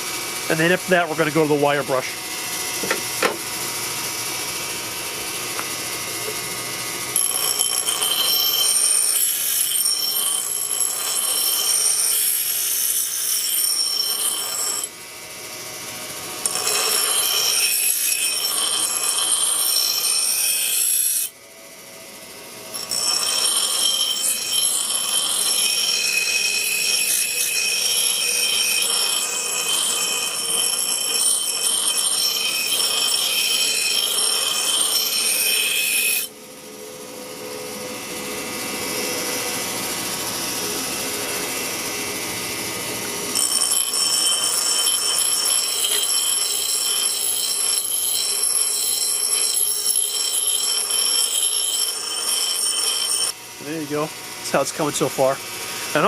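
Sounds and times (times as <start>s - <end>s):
bench grinder grinding steel: 0.0s - 21.4s, 22.2s - 36.4s, 37.4s - 56.0s.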